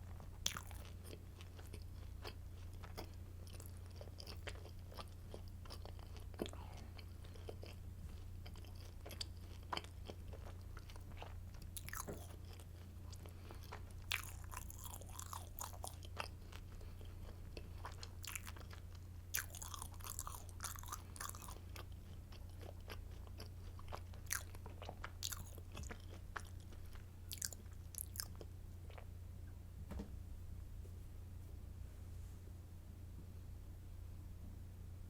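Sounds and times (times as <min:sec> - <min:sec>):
chewing crunchy bread: 0:00.0 - 0:29.2
steady low hum: 0:00.0 - 0:35.0.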